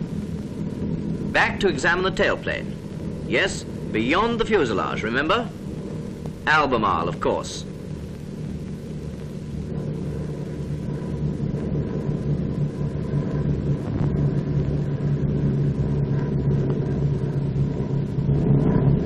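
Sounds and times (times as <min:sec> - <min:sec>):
piston aircraft engine drone: 0:00.0 - 0:19.0.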